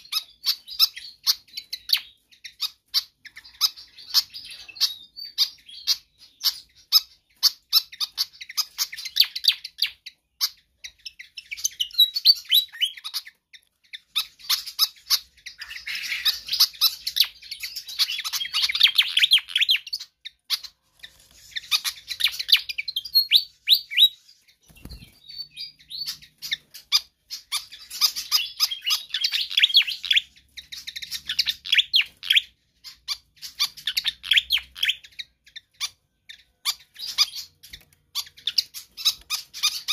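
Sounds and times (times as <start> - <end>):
bird squeaky chirping: 0.0 - 39.9.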